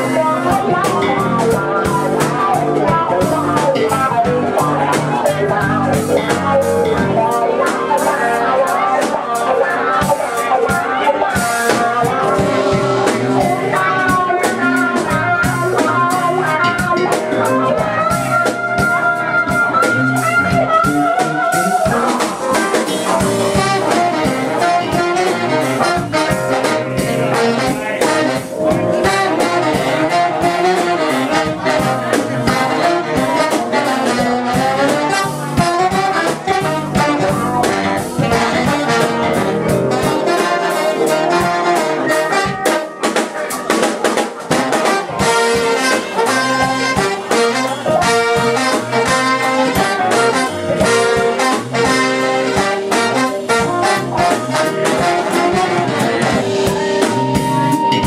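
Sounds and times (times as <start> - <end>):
bass: 0.0 - 58.0
drums: 0.0 - 58.0
guitar: 0.0 - 58.0
horn section playing melody: 0.0 - 58.0
keyboard: 0.0 - 58.0.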